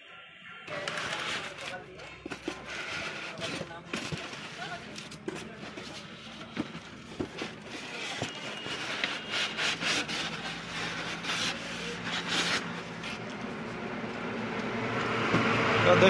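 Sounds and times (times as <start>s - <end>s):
foam and cardboard scraping: 0.7s - 13.8s.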